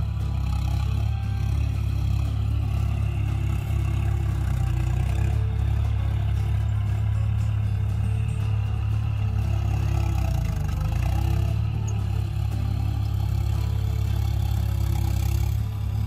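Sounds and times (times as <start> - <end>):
tractor diesel engine rumbling: 0.0 - 16.0.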